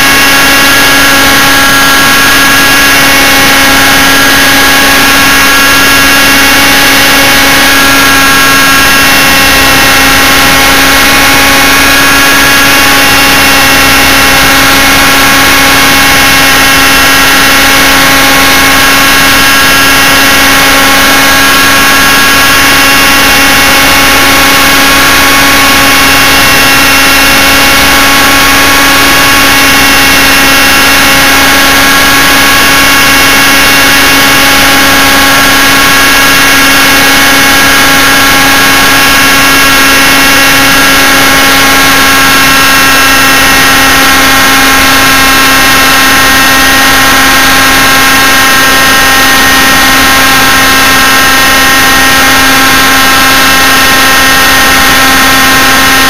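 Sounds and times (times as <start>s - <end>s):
model helicopter motor whine: 0.0s - 56.0s.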